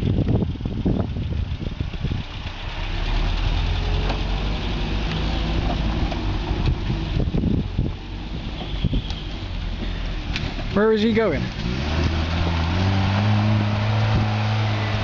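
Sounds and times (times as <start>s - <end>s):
engine running at low speed: 0.0s - 10.8s, 11.4s - 15.0s.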